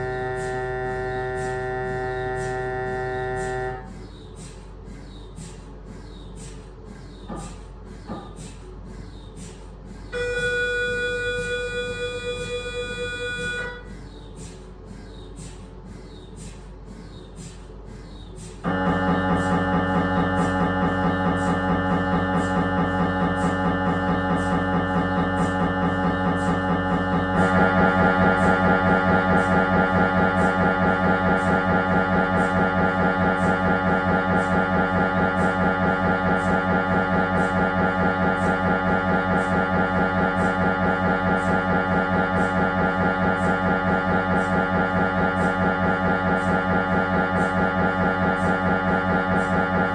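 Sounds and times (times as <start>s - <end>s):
mri scanner pulsing buzz: 0.0s - 49.9s.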